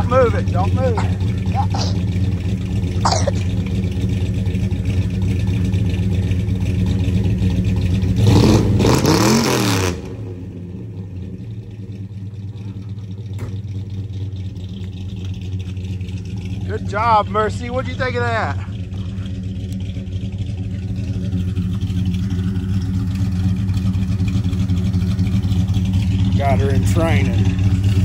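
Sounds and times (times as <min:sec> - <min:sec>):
engine idling and revving: 0:00.0 - 0:28.0.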